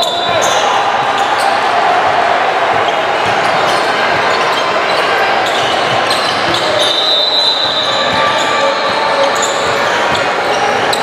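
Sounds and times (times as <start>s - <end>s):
echoing murmur of voices: 0.0s - 11.0s.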